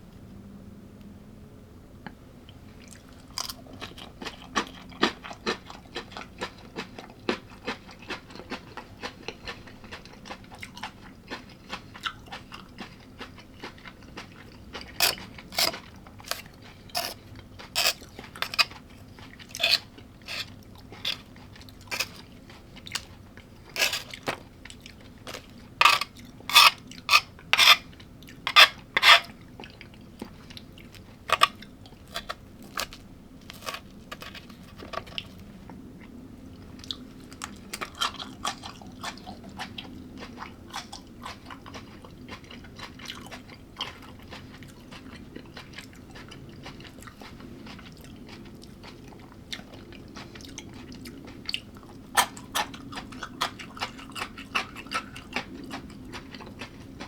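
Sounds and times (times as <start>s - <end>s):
person chewing crunchy food: 2.7s - 57.0s.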